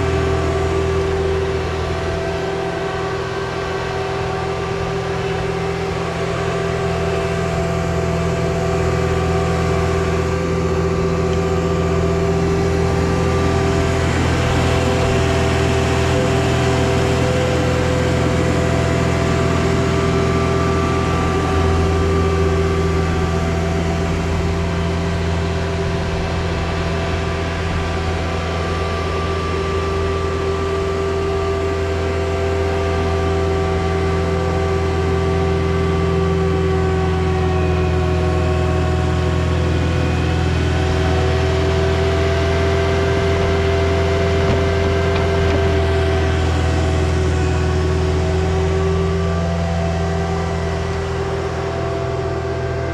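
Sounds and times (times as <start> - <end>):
diesel engine droning: 0.0 - 52.9.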